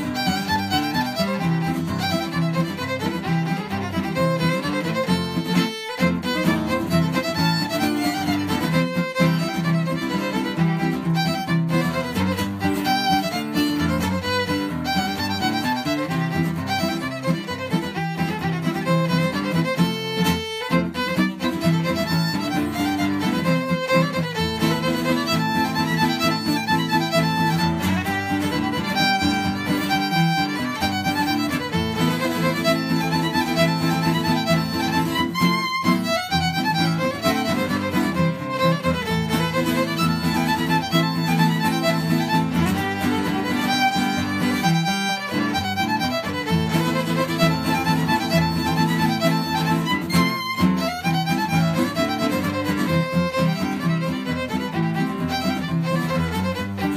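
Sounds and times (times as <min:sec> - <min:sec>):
acoustic guitar accompaniment: 0:00.0 - 0:56.9
fiddle playing a reel: 0:00.0 - 0:56.9.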